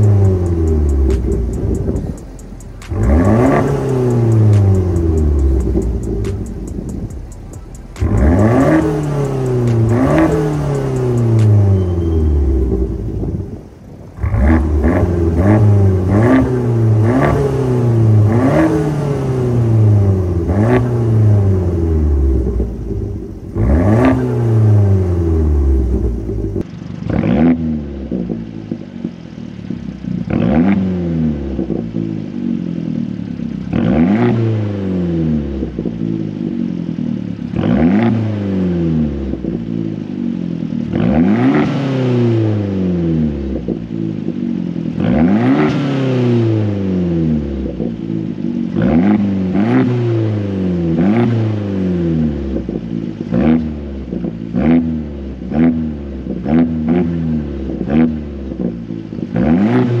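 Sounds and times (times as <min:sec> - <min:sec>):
car engine revving: 0:00.0 - 1:00.0.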